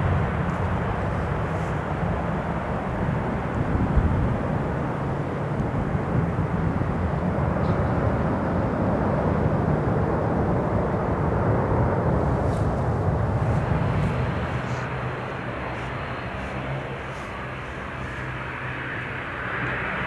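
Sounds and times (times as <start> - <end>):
jet airliner engines rumbling: 0.0 - 20.0.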